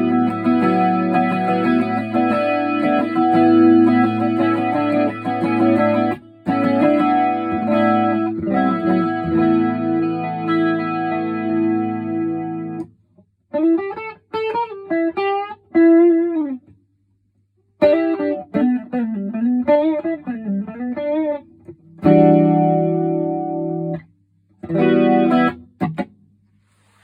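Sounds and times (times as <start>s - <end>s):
electric guitar with chorus effect: 0.0s - 16.8s, 17.8s - 26.2s.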